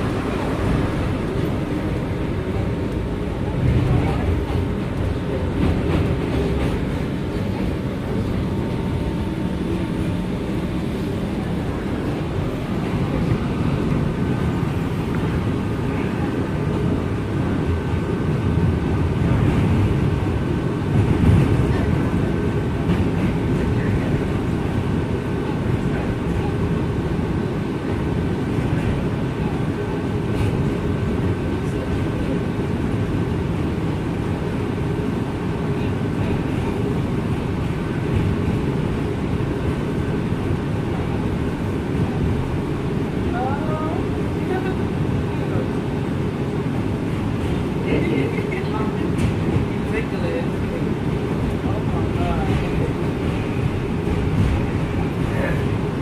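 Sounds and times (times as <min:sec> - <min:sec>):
subway train rumbling: 0:00.0 - 0:56.0.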